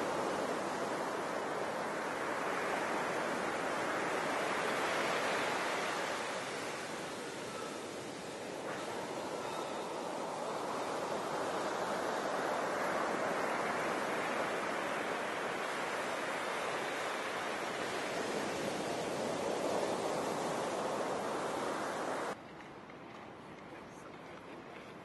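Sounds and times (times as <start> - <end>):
surf breaking on beach: 0.0 - 22.4.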